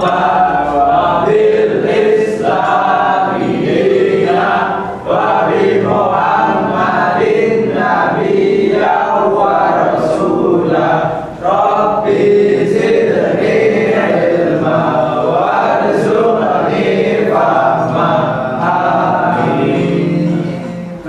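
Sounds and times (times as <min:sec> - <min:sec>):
group reciting a prayer in unison: 0:00.0 - 0:21.0.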